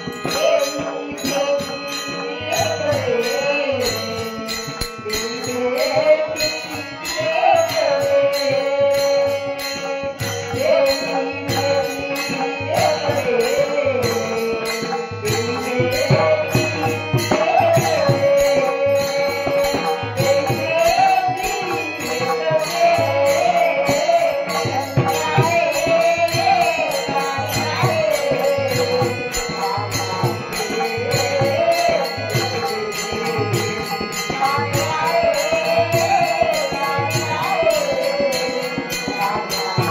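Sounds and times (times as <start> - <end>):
jingling hand percussion: 0.0 - 39.9.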